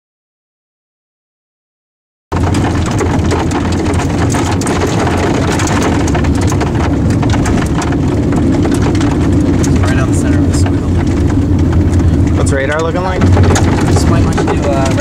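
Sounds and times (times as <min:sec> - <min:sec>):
car engine and road noise: 0:02.3 - 0:15.0
raindrops ticking on car: 0:02.3 - 0:15.0.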